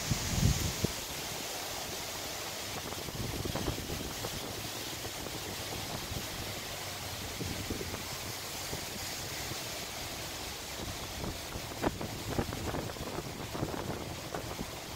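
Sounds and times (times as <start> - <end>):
gusty wind buffeting microphone: 0.0 - 1.3, 2.6 - 14.9.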